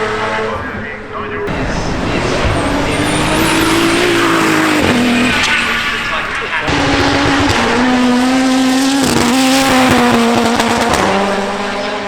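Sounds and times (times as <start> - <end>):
car engine revving high: 1.5 - 12.0.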